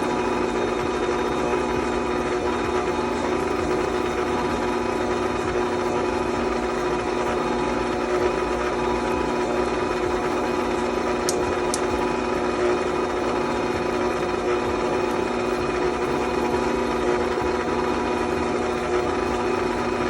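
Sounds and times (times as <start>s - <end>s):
stand mixer motor running: 0.0s - 20.0s.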